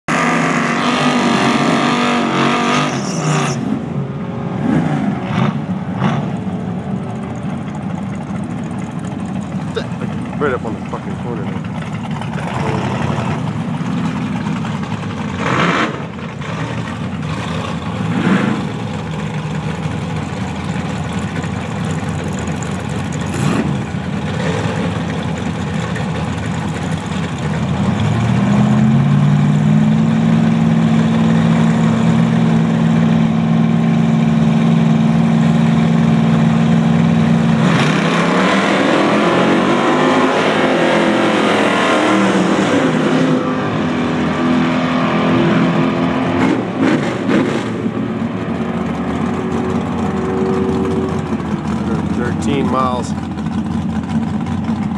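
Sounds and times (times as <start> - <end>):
other car accelerating: 0.1 - 54.9
pickup engine revving: 0.1 - 54.9.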